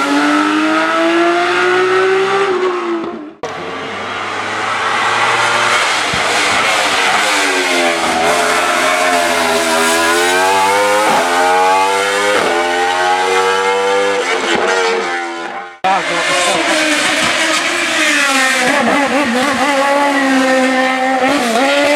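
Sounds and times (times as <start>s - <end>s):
race car engine accelerating: 0.0s - 21.9s.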